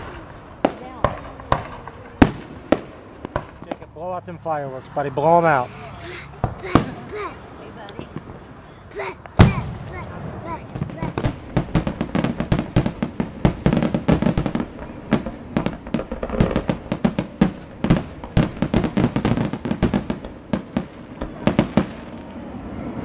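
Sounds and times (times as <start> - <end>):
fireworks bangs and crackles: 0.0 - 4.6, 5.6 - 8.4, 9.0 - 23.0.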